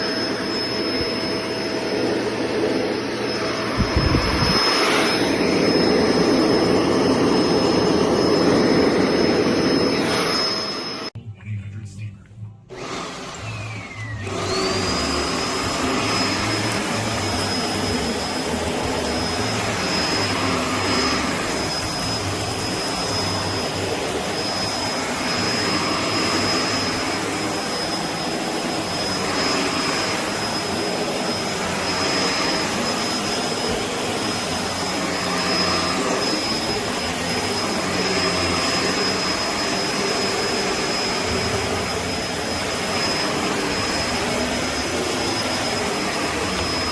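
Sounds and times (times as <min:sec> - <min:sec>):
vacuum cleaner motor whining: 0:00.0 - 0:11.2, 0:12.7 - 0:46.9.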